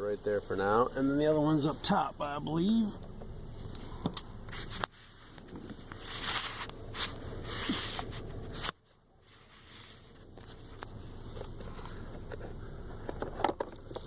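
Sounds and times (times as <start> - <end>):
filter scraping and rustling: 0.2 - 14.0.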